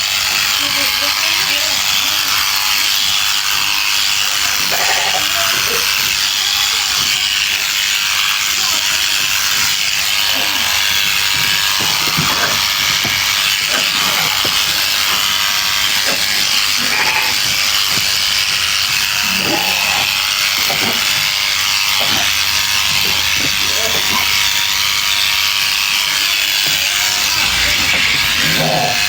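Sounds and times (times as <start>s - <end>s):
electric sheep shears buzzing: 0.0s - 29.0s.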